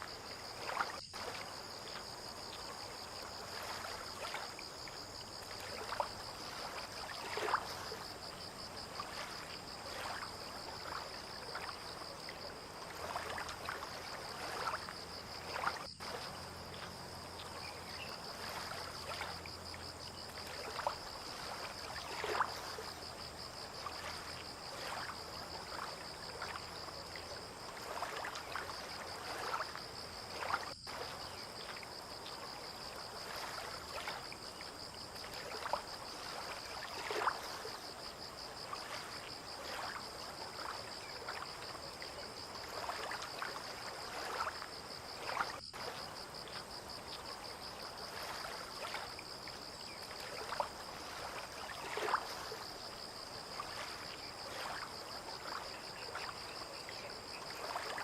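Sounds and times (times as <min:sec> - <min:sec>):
water lapping in small splashes: 0:00.0 - 0:58.0.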